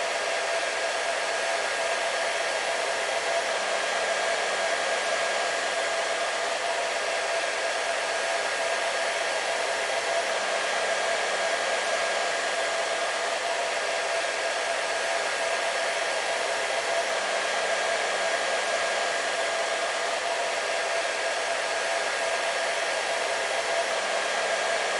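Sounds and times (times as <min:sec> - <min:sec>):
hair dryer running: 0:00.0 - 0:24.9.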